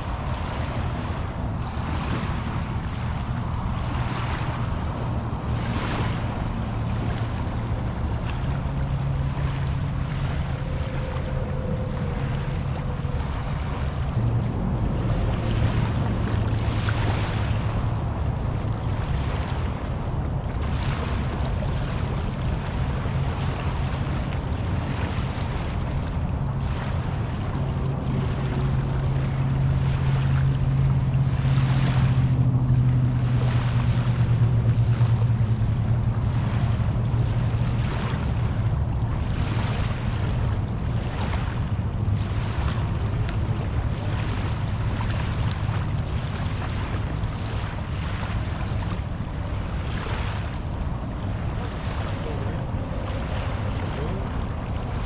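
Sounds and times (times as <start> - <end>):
low hum: 0.0 - 55.0
small waves washing ashore: 0.0 - 55.0
wind buffeting microphone: 0.0 - 55.0.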